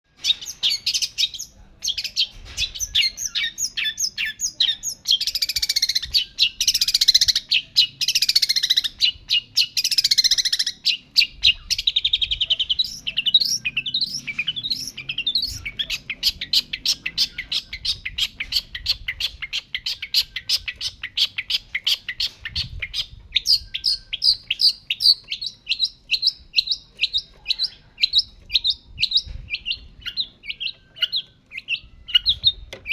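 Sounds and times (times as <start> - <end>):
bird singing: 0.1 - 32.9.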